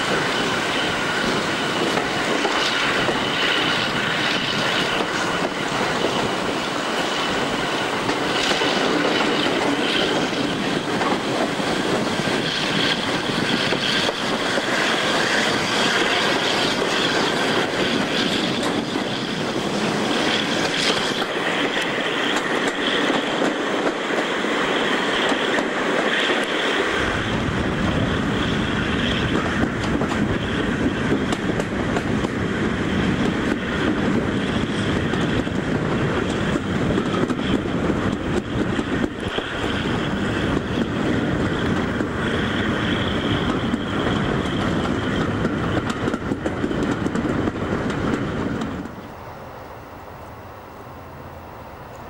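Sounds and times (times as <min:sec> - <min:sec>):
train wheels clattering over rail joints: 0:00.0 - 0:27.3, 0:27.9 - 0:48.9
train rushing rumble: 0:00.0 - 0:52.0.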